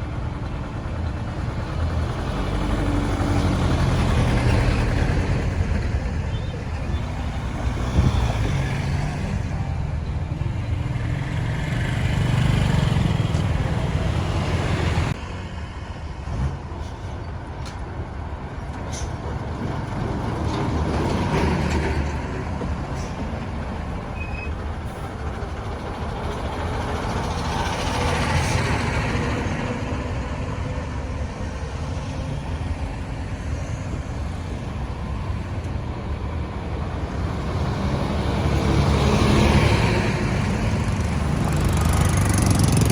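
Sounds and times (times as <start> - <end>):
truck and vehicle engines passing: 0.0 - 42.9.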